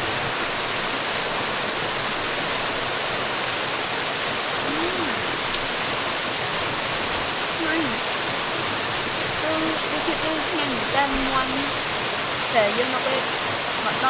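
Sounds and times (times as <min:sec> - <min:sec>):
waterfall pouring: 0:00.0 - 0:14.0.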